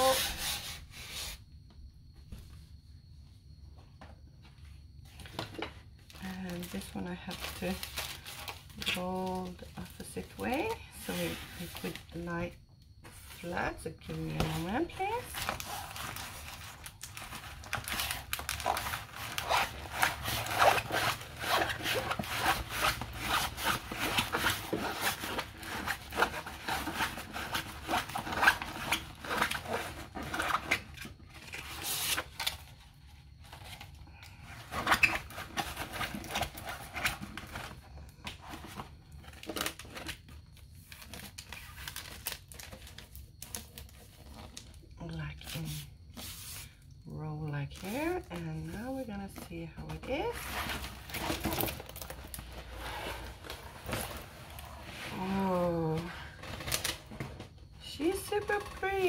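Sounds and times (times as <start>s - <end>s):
paper and plastic wrapping crinkling: 5.2s - 12.2s, 13.2s - 44.8s, 47.7s - 57.4s.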